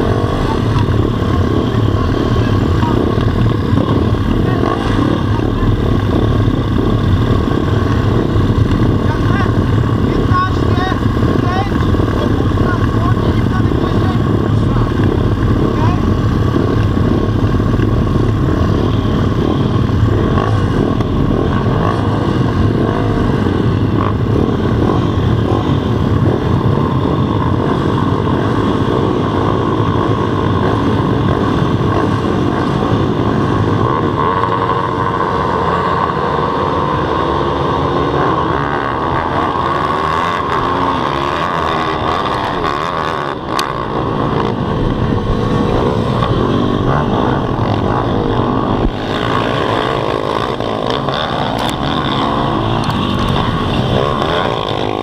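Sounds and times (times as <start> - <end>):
pit bike engines revving: 0.0 - 55.0.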